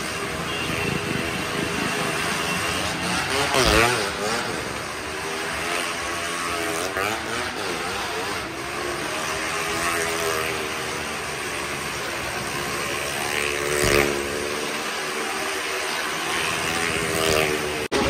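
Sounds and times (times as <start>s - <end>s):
car engines running hard: 0.0s - 18.0s
motorcycle passing close by: 0.0s - 18.0s.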